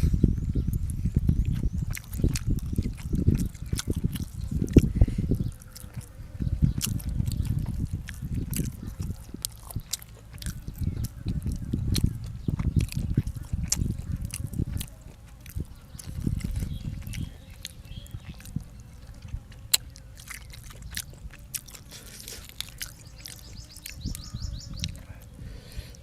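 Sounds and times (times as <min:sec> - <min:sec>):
mouth clicks and smacks: 0:00.0 - 0:26.0
person chewing wetly: 0:00.0 - 0:26.0.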